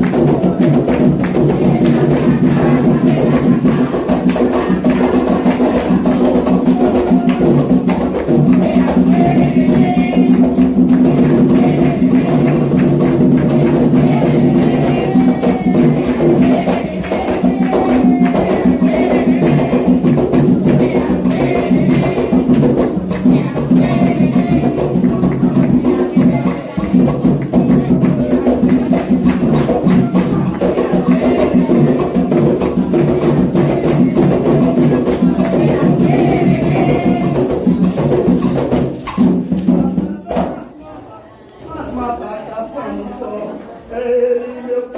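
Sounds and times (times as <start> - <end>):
bell playing rhythm: 0.0 - 39.8
hand drums playing: 0.0 - 40.6
voices singing: 0.0 - 44.9.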